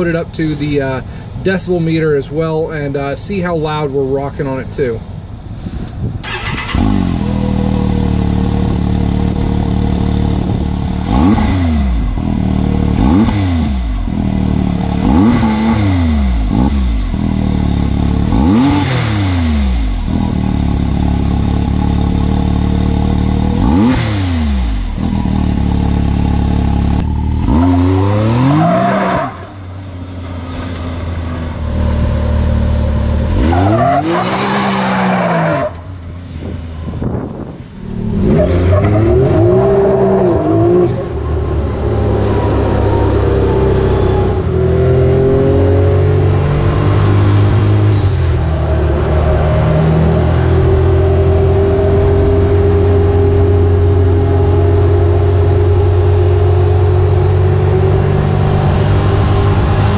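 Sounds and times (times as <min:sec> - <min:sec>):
engine idling and revving: 0:05.2 - 0:59.9.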